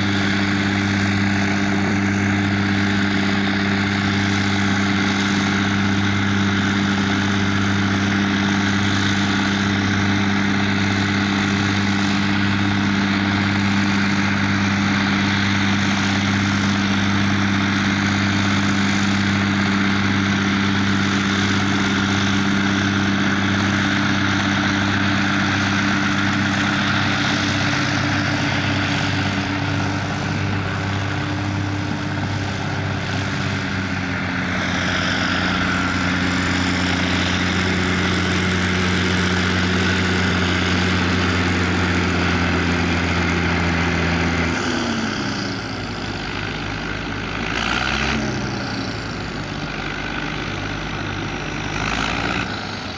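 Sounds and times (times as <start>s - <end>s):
harvester machinery rushing: 0.0s - 52.9s
tractor diesel engine under load: 0.0s - 52.9s.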